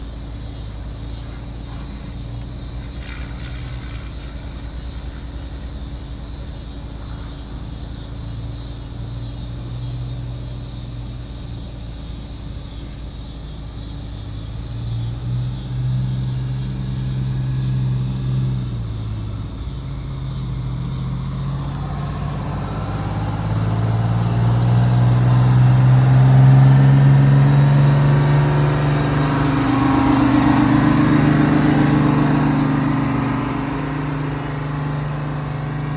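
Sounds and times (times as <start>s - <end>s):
cicadas buzzing: 0.0s - 35.9s
diesel truck engine idling and revving: 0.0s - 35.9s.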